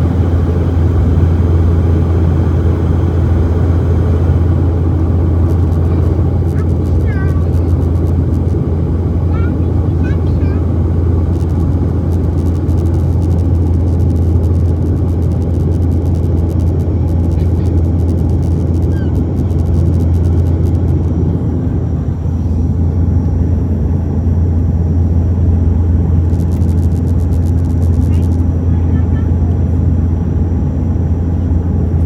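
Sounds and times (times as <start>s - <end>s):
airliner cabin rumble: 0.0s - 32.0s
deep hum: 0.0s - 32.0s.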